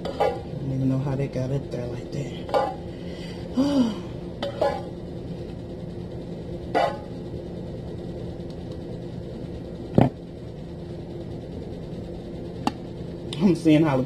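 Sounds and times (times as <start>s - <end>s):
low kitchen hum: 0.0s - 14.0s.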